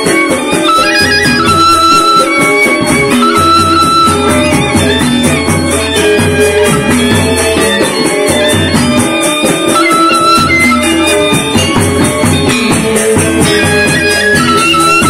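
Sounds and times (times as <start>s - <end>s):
barrel drum: 0.0s - 15.0s
metallophones struck with mallets: 0.0s - 15.0s.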